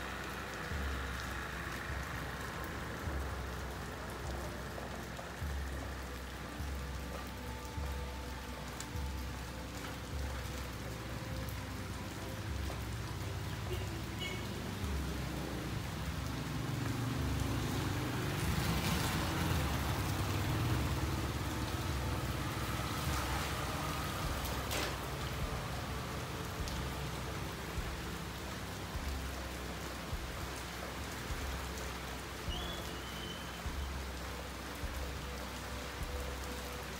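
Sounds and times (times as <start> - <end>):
rain falling on street: 0.0 - 36.9.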